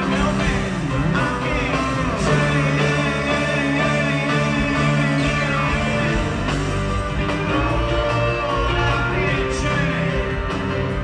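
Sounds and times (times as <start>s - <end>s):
rock music with guitars: 0.0s - 11.0s.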